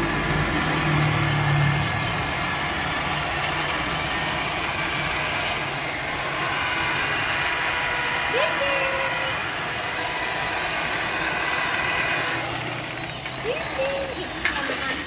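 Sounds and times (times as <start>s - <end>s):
electric polisher whining: 0.0s - 15.0s.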